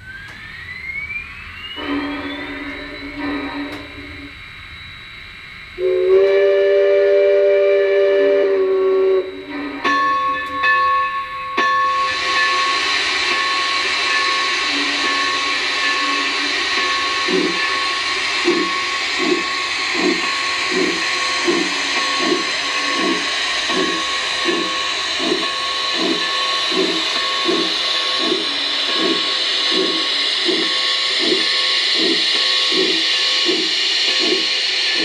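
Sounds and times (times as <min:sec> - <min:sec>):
steam chuff: 0:00.0 - 0:10.6, 0:11.8 - 0:35.0
model steam locomotive hiss: 0:01.4 - 0:35.0.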